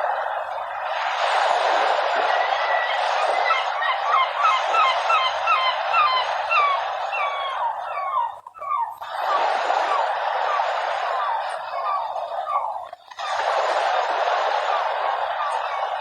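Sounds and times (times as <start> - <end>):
gulls calling: 0.0 - 16.0
sea waves washing: 0.0 - 16.0.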